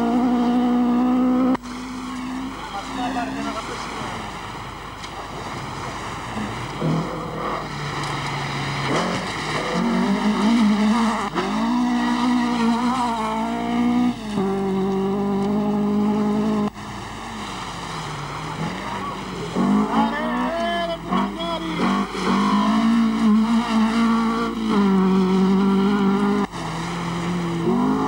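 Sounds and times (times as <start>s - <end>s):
rally car engines revving hard: 0.0s - 28.0s.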